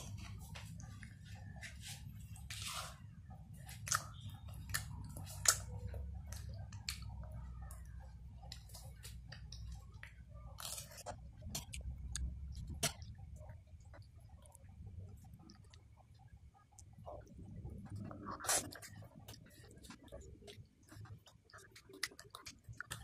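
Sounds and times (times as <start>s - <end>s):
low hum: 0.0s - 21.5s
child chewing: 0.0s - 23.0s.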